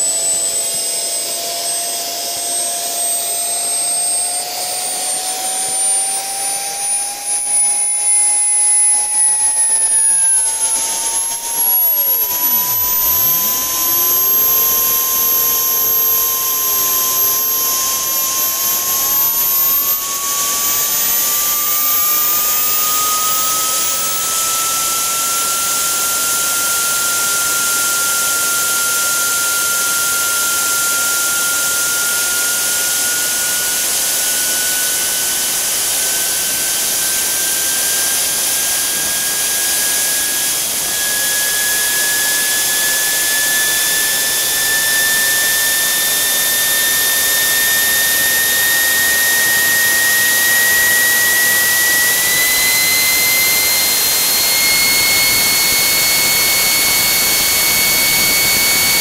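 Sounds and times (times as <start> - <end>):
jet turbine engine whining: 0.0 - 59.0.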